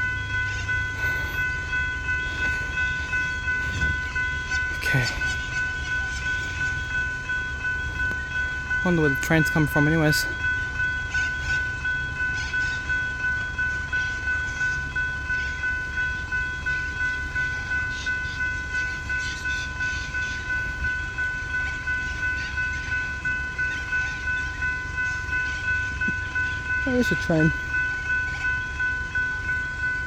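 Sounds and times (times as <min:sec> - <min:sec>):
level crossing bells ringing: 0:00.0 - 0:30.0.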